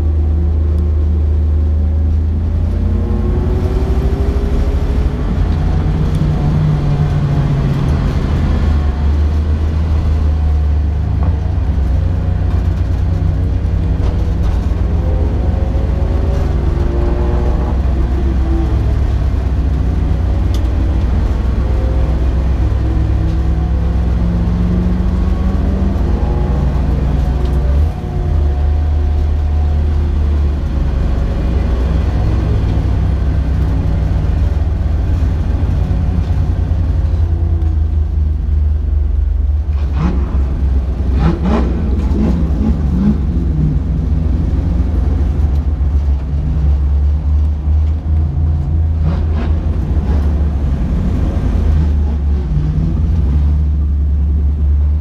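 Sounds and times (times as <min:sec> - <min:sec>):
race car engine at speed: 0:00.0 - 0:55.0.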